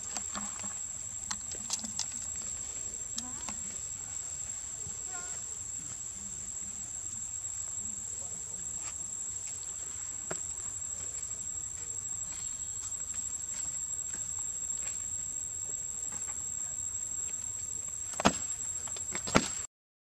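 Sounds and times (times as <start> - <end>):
insects buzzing: 0.0 - 19.6.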